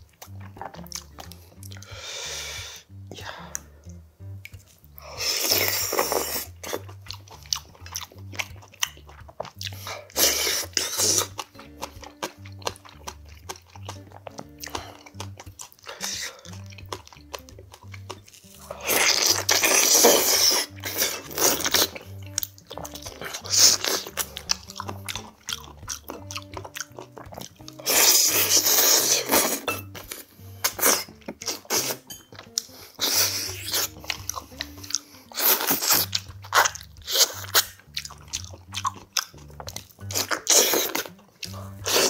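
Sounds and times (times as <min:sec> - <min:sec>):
chewing and mouth noises: 0:00.0 - 0:42.0
soft background music: 0:00.0 - 0:42.0.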